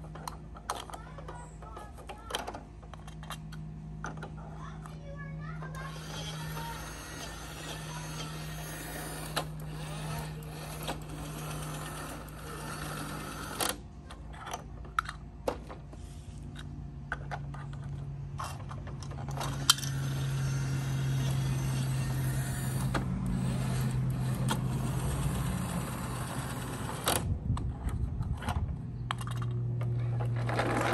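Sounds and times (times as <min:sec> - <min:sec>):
plastic toys clicking and knocking: 0:00.0 - 0:05.0, 0:05.7 - 0:15.8, 0:16.5 - 0:20.3, 0:20.9 - 0:30.9
steady low hum: 0:00.0 - 0:30.9.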